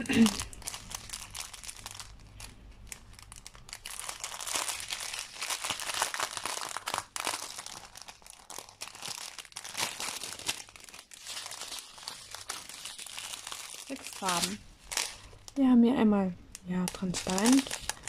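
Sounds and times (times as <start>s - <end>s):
plastic bags crinkling: 0.0s - 15.8s, 16.5s - 18.0s.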